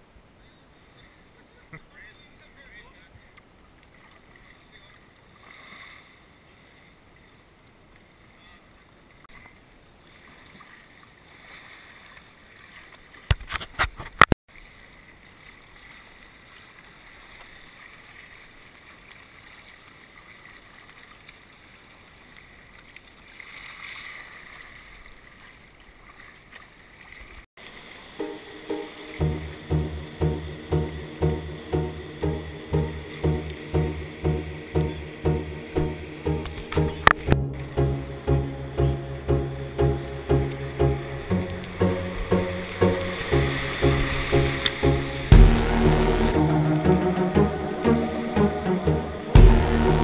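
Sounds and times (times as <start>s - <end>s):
water wash and paddle noise: 3.0s - 13.5s, 14.5s - 50.0s.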